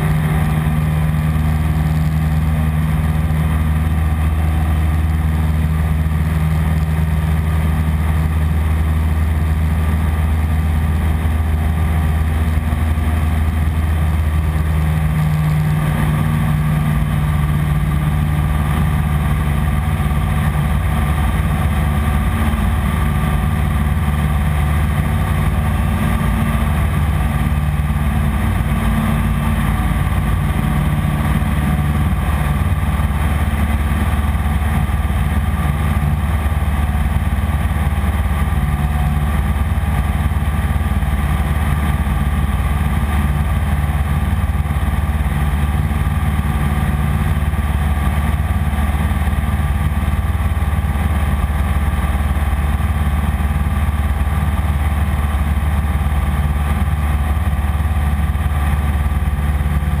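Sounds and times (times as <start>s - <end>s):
aircraft engine droning: 0.0s - 60.0s.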